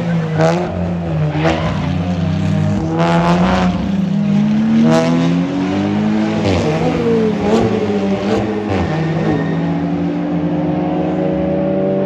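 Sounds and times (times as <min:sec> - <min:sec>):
race car engine accelerating: 0:00.0 - 0:12.0
race cars passing by: 0:00.0 - 0:12.0.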